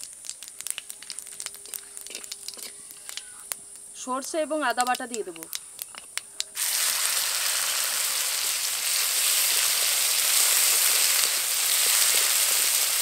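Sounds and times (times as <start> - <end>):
paste sizzling in hot oil: 0.0 - 5.3, 6.4 - 13.0.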